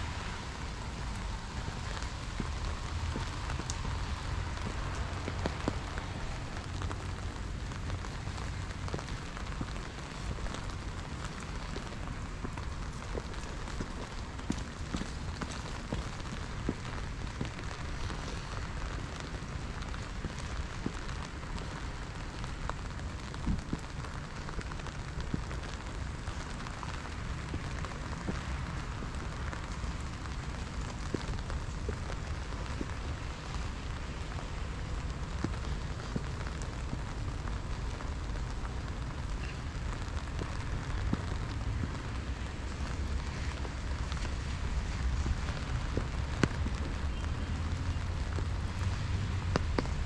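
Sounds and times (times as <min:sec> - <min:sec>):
rain on paving and grass: 0:00.0 - 0:50.0.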